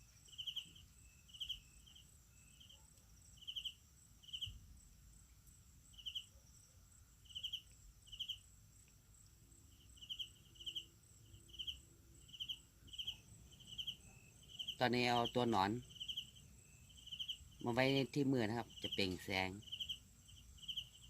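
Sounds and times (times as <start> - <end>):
cricket chirping: 0.0 - 21.0
high-pitched insect trill: 0.0 - 21.0.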